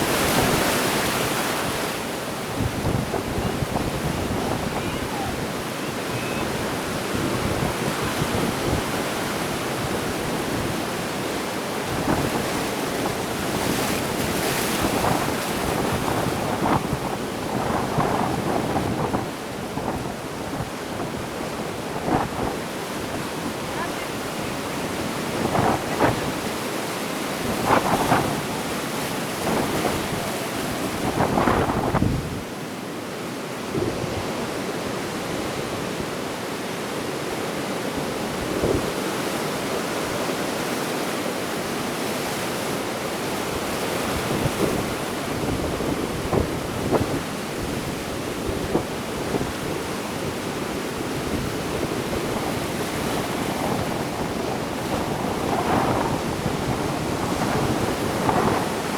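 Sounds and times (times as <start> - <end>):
wind buffeting microphone: 0.0 - 32.6, 43.2 - 58.9
ocean waves breaking on beach: 0.0 - 58.9.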